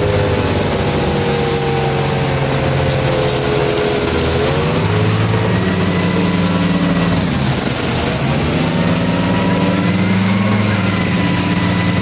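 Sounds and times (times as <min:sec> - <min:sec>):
churning wake water: 0:00.0 - 0:12.0
motorboat engine: 0:00.0 - 0:12.0.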